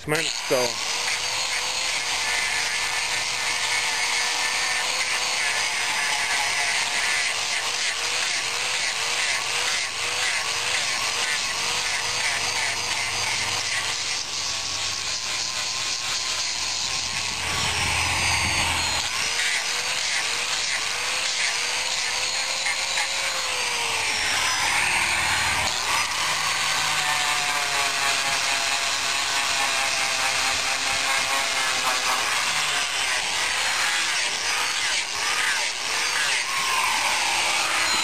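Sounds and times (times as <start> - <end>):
angle grinder cutting wood: 0.0 - 38.0.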